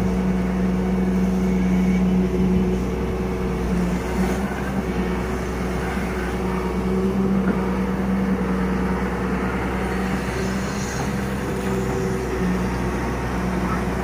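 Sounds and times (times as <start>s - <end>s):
excavator diesel engine humming: 0.0s - 14.0s.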